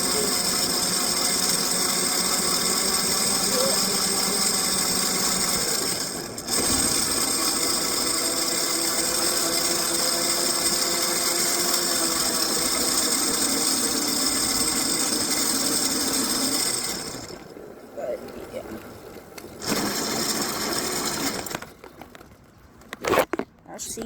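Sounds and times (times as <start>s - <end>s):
electric bike motor whirring: 0.0s - 17.6s, 19.6s - 21.8s.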